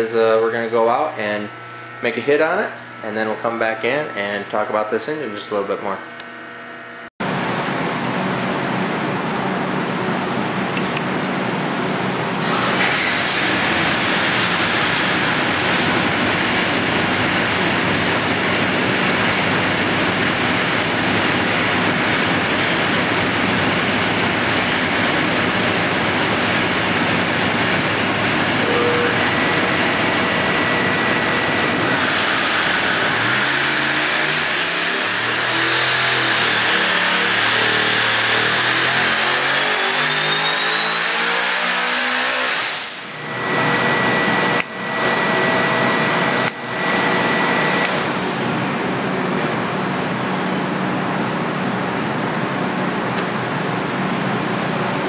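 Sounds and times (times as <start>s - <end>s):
fans running: 0.0s - 55.0s
supercharger whine: 0.0s - 55.0s
loud engine running: 7.2s - 55.0s.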